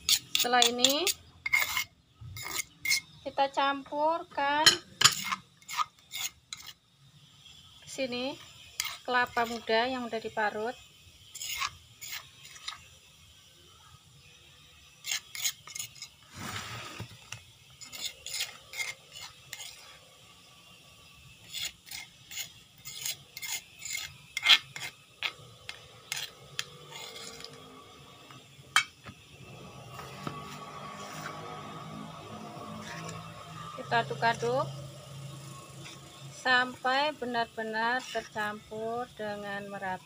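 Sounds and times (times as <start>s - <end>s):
metal spoon scraping stone mortar: 0.0s - 3.3s, 4.6s - 6.8s, 8.1s - 10.1s, 11.2s - 12.9s, 14.9s - 20.3s, 21.4s - 39.9s.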